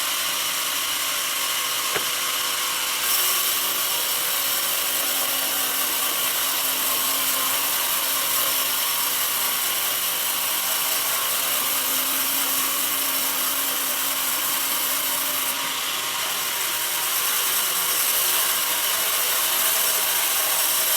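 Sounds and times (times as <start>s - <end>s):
band saw cutting log: 0.0s - 20.9s.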